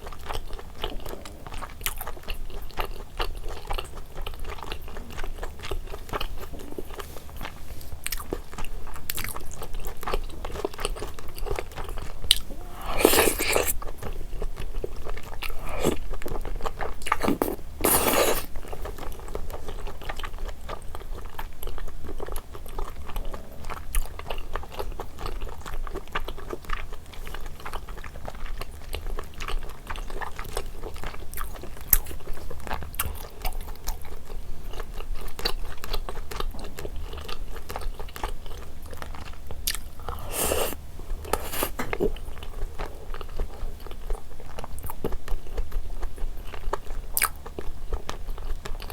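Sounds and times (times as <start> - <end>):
wet chewing and biting: 0.1 - 22.9, 27.5 - 45.3.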